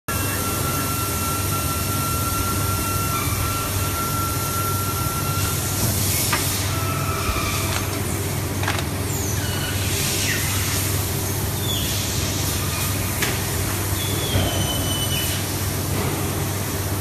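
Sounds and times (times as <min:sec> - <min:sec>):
injection molding press humming: 0:00.1 - 0:17.0.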